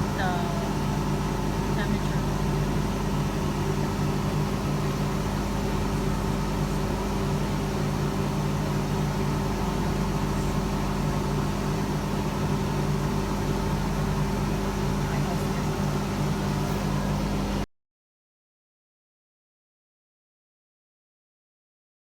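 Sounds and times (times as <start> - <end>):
dryer machine hum with fan: 0.0 - 17.7.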